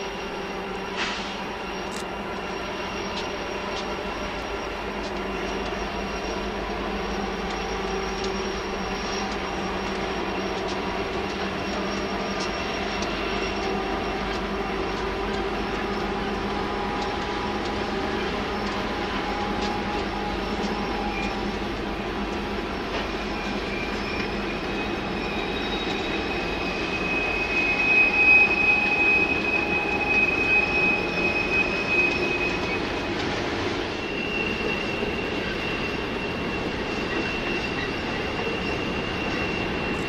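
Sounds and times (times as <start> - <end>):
freight train passing: 0.0 - 40.0
high squeals: 0.0 - 40.0
train clicks: 1.0 - 28.0, 28.8 - 40.0.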